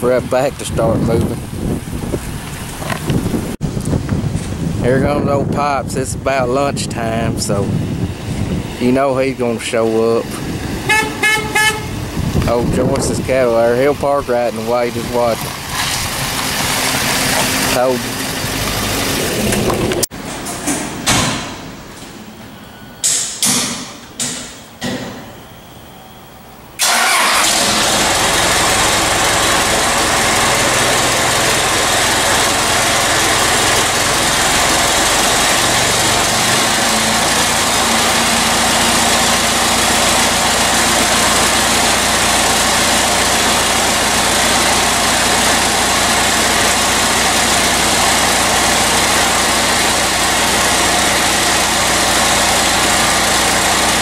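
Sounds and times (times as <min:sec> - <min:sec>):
vehicle engine starting and running: 0:00.0 - 0:22.4, 0:26.6 - 0:54.0.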